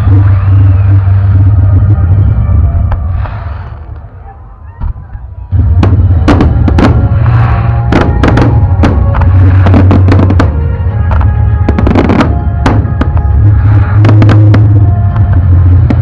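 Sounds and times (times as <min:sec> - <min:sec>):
loud music: 0:00.0 - 0:03.6, 0:05.5 - 0:16.0
fireworks bangs and crackles: 0:00.0 - 0:04.1, 0:04.8 - 0:16.0.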